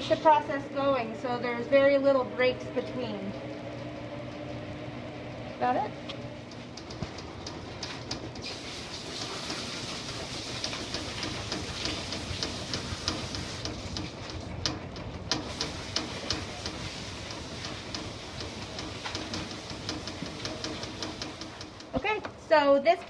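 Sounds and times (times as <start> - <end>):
washing machine spinning whir: 0.0 - 23.0
rapid regular ticking: 2.5 - 22.2.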